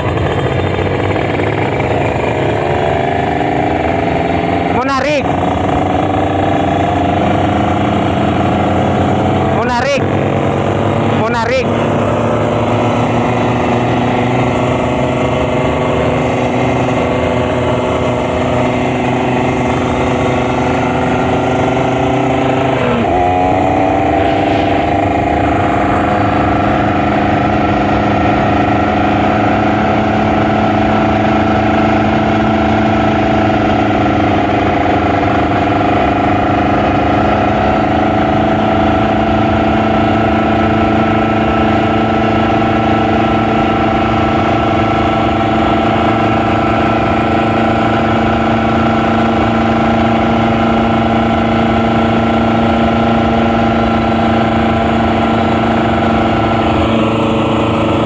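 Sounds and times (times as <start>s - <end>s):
two-stroke motorcycle engine running: 0.0s - 58.0s.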